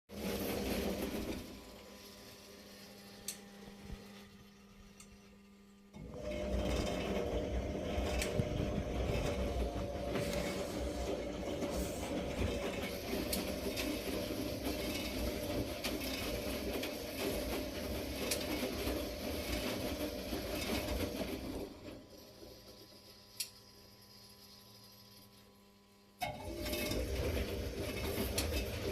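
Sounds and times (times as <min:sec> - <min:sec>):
washing machine churning: 0:00.1 - 0:04.4, 0:05.9 - 0:24.5, 0:26.2 - 0:28.9.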